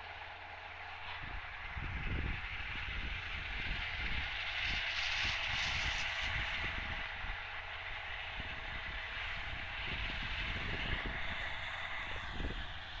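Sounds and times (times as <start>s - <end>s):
tractor mower droning: 0.0s - 13.0s.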